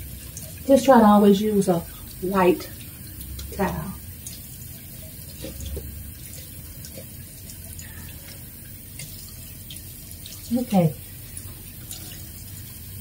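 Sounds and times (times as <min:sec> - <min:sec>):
light water splashes: 0:00.0 - 0:13.0
tap water running into sink: 0:00.0 - 0:13.0.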